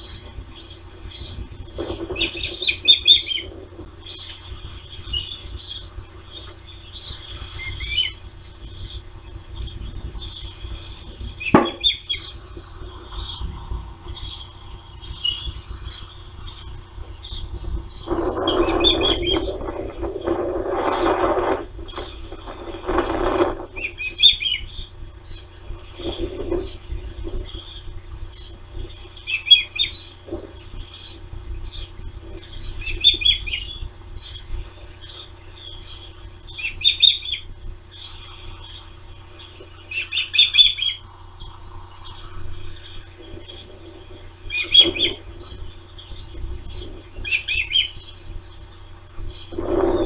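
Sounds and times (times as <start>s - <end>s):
birds chirping high: 0.0s - 50.0s.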